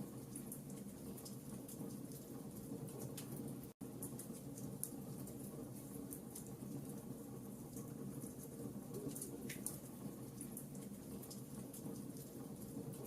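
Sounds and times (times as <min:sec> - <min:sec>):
fire crackling and popping: 0:00.3 - 0:13.0.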